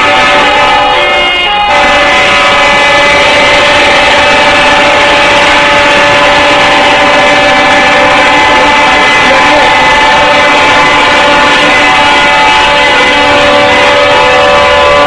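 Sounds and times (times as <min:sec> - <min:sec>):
truck air horn blowing: 0:00.0 - 0:15.0.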